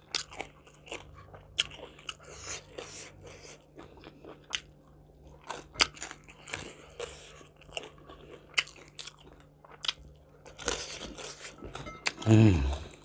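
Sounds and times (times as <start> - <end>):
wet chewing: 0.0 - 12.3.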